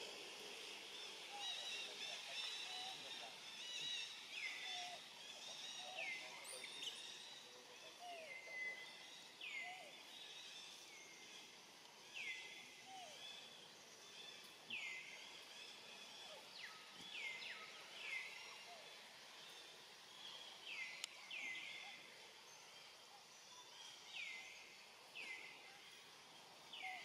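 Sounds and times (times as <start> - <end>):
low outdoor background noise: 0.0 - 27.0.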